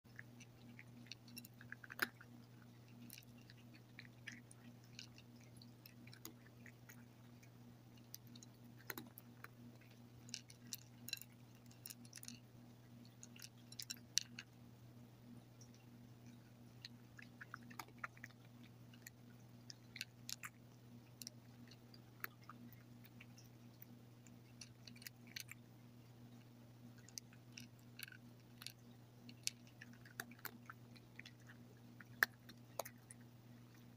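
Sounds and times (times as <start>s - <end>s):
cat crunching dry kibble: 0.1s - 14.6s, 15.4s - 33.9s
faint low hum: 0.1s - 33.9s.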